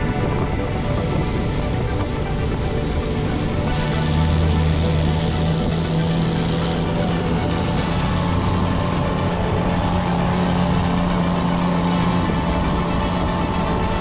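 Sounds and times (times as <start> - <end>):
motorcycle engine running: 0.0 - 14.0
road noise: 0.0 - 14.0
wind noise: 0.0 - 14.0.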